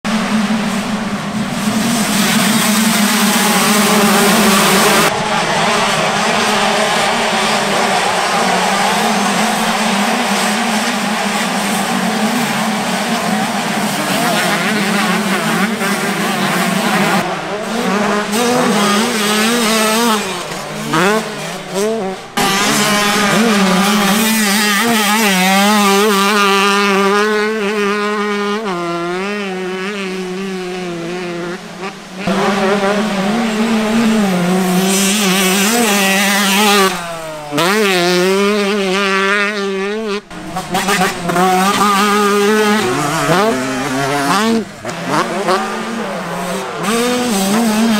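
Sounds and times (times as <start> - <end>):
motocross engines revving: 0.0 - 47.9.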